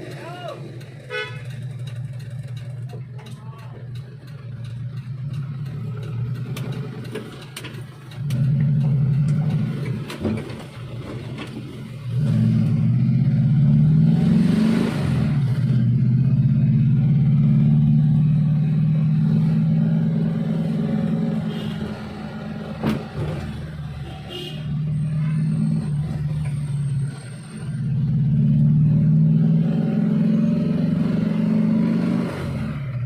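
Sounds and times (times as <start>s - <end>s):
minivan engine revving: 0.0s - 33.0s.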